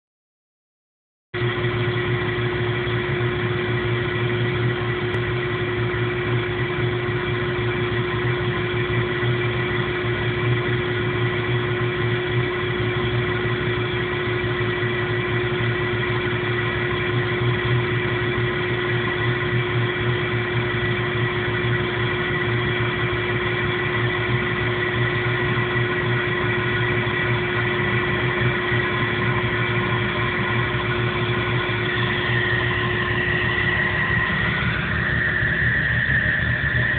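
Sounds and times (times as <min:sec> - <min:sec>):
car engine idling roughly: 0:01.5 - 0:36.9.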